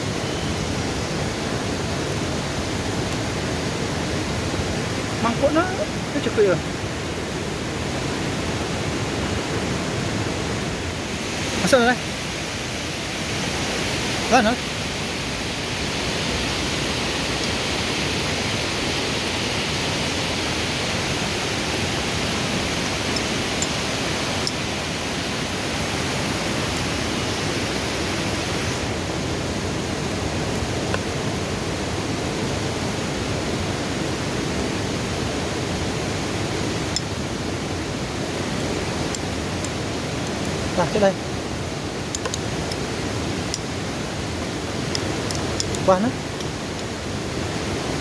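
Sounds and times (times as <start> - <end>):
water rushing: 0.0 - 48.0.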